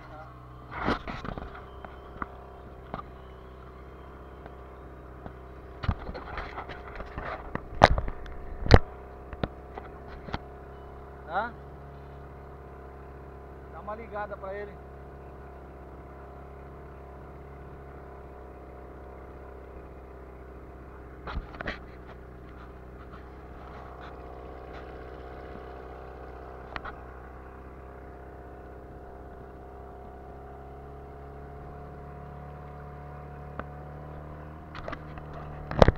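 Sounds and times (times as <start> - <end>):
outboard motor running: 0.0 - 35.9.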